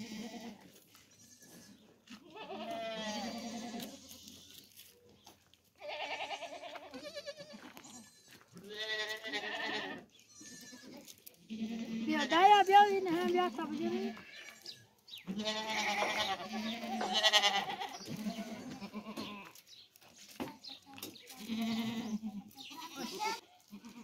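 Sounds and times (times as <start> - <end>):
goats bleating: 0.0 - 4.7, 5.8 - 19.6, 21.2 - 24.0.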